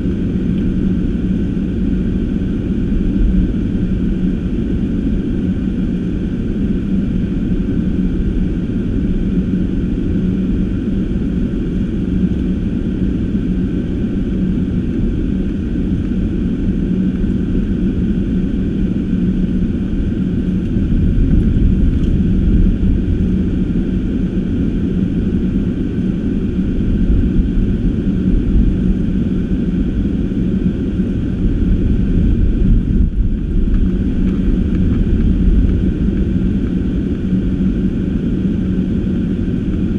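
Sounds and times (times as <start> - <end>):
car engine and tyre rumble: 0.0 - 39.9
constant low hum: 0.0 - 39.9.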